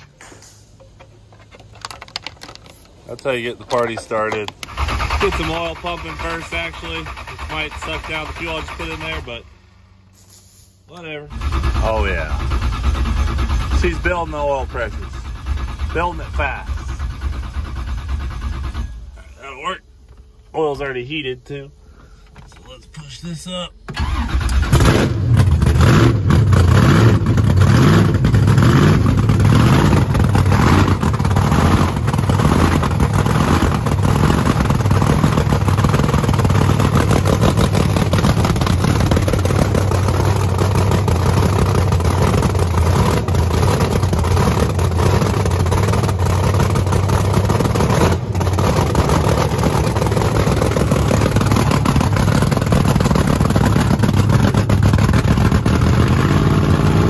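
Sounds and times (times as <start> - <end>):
race car engine idling: 0.8 - 10.1, 11.0 - 20.5, 25.3 - 56.3.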